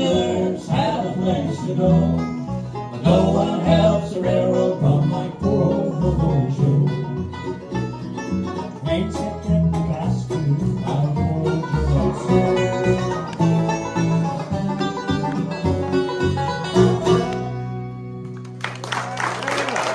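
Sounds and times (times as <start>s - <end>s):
banjo and guitar picking: 0.0s - 18.4s
live bluegrass band playing: 0.0s - 18.9s.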